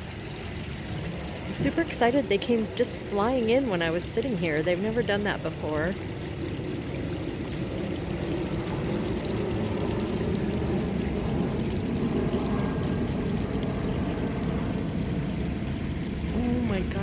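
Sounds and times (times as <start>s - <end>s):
water trickling in pond: 0.0s - 17.0s.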